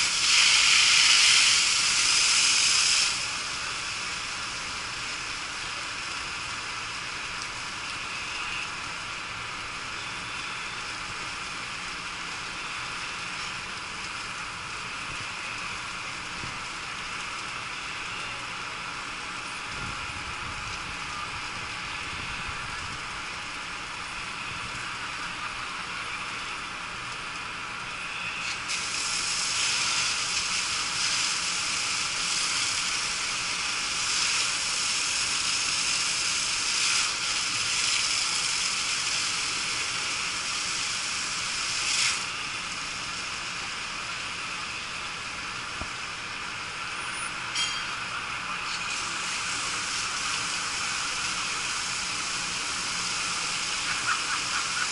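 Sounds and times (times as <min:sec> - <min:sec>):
fire hose spraying water: 0:00.0 - 0:54.9.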